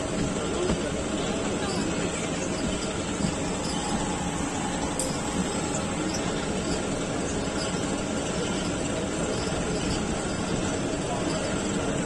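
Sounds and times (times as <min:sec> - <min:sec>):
railcar engine and wheels rumbling: 0:00.0 - 0:12.0.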